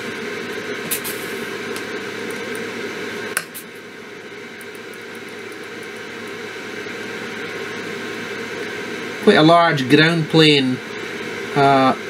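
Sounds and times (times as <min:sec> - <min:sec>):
fan-like hum: 0:00.0 - 0:12.0.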